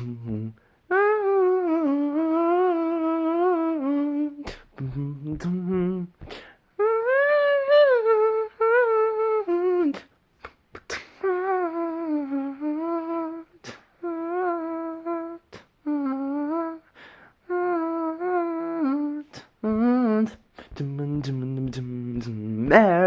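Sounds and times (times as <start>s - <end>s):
person humming a melody: 0.0s - 23.0s.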